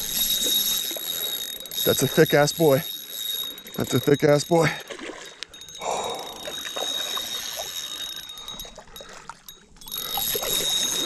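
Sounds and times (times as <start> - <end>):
fishing reel clicking and whirring: 0.0 - 11.0.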